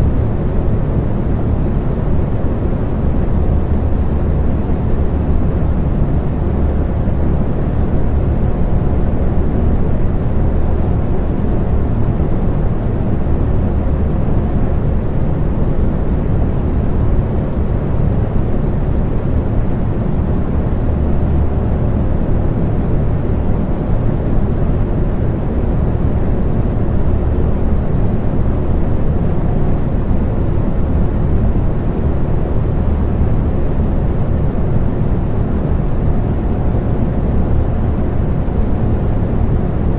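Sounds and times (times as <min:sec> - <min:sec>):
electric fan rush of air: 0:00.0 - 0:39.9
faint steady hum: 0:00.0 - 0:39.9.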